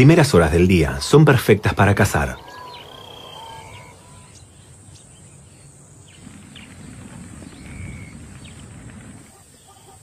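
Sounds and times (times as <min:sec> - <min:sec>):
bird chirps: 0:00.6 - 0:10.0.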